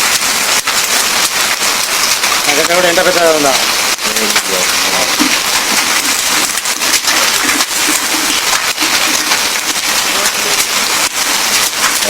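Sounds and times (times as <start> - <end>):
hailstones hitting hard surface: 0.0 - 12.0
heavy rain: 0.0 - 12.0.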